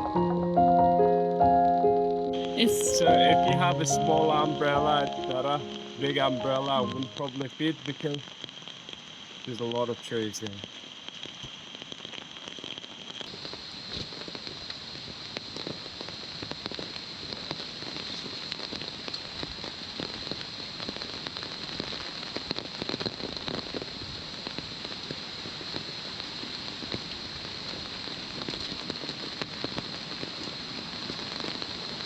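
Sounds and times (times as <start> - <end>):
heavy rain falling: 2.4 - 32.0.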